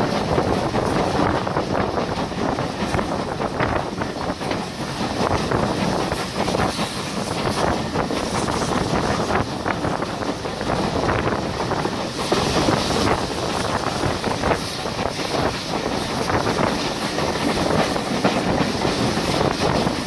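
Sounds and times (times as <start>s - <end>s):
train wheels clattering over rails: 0.0s - 20.0s
wind rushing past microphone: 0.0s - 20.0s.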